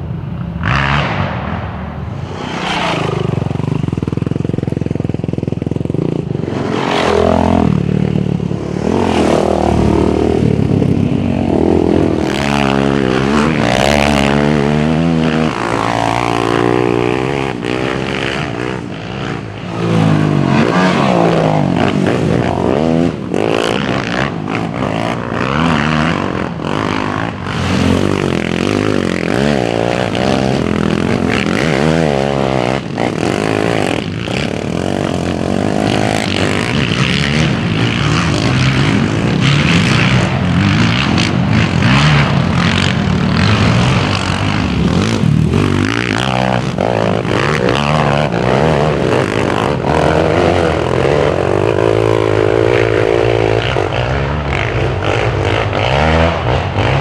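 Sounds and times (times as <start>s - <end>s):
quad engine revving: 0.6s - 1.6s, 2.2s - 57.0s.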